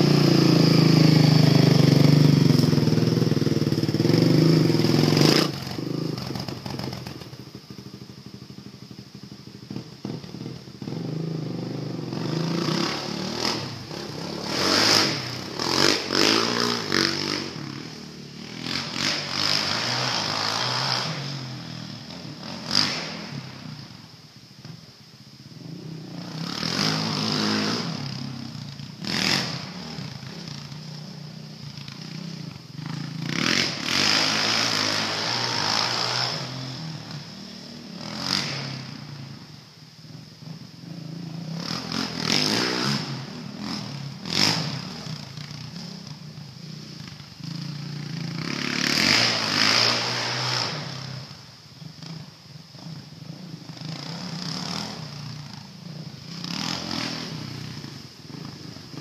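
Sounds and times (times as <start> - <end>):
quad engine revving: 0.0 - 7.4, 10.0 - 23.7, 25.7 - 31.0, 31.9 - 39.3, 40.8 - 51.4, 53.2 - 59.0.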